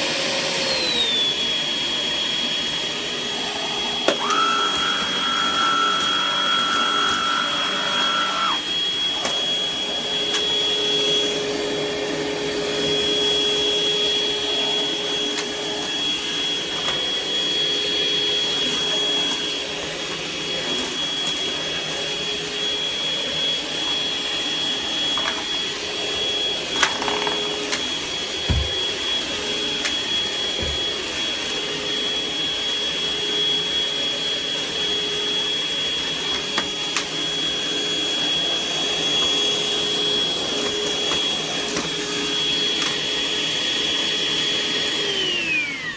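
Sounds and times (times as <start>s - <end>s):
vacuum cleaner whining: 0.0s - 45.9s.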